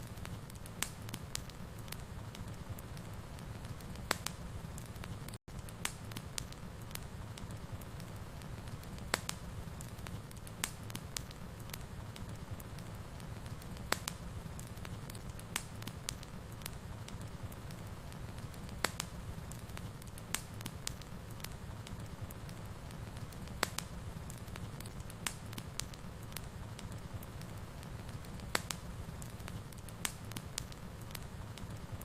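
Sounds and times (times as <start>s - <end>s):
low rumble of burning: 0.0s - 32.0s
sharp pops of fire: 0.0s - 32.0s
wood fire crackling: 0.0s - 32.0s.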